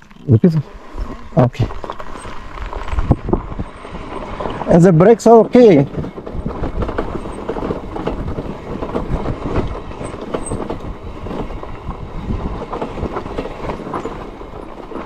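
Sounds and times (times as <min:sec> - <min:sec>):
bike rattling over bumps: 0:00.0 - 0:15.0.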